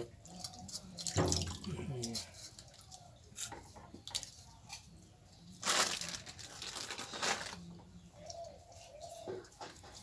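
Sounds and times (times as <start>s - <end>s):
crinkling rustling handling noise: 0.3s - 10.0s.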